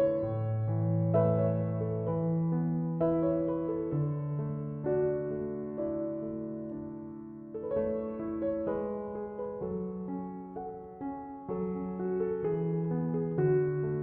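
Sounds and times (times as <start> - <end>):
electric piano chords: 0.0 - 14.0.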